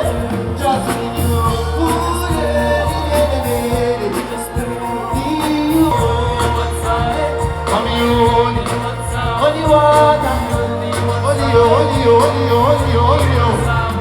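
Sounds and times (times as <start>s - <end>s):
deep bass line: 0.0s - 14.0s
pop song with singing: 0.0s - 14.0s.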